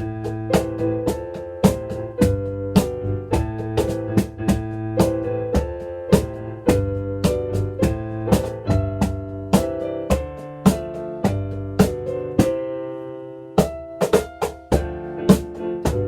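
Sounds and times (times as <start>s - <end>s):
cajon slaps: 0.0s - 12.6s, 13.6s - 16.0s
piano chords and melody: 0.0s - 16.0s.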